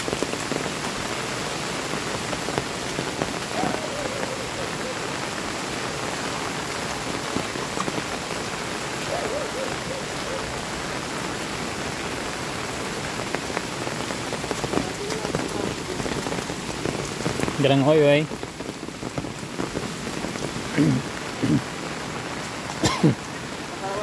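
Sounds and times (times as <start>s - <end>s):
rain falling on leaves: 0.0s - 24.0s.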